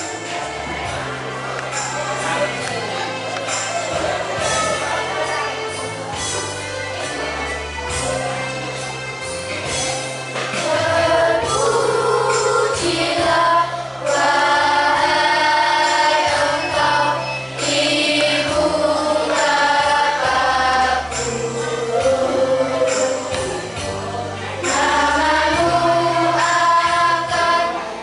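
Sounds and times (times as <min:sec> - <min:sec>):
children's choir singing: 0:00.0 - 0:08.9, 0:09.6 - 0:28.0
instrumental accompaniment low notes: 0:00.0 - 0:28.0.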